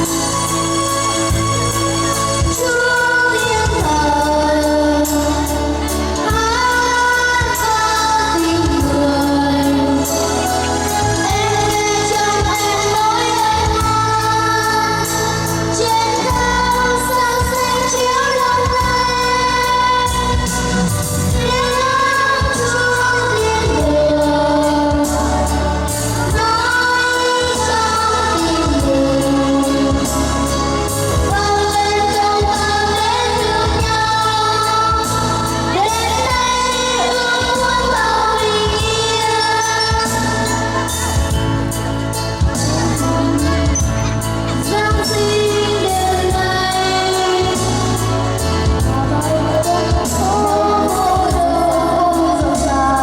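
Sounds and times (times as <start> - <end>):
instrumental accompaniment with bass: 0.0 - 53.0
choir singing a hymn: 2.4 - 53.0.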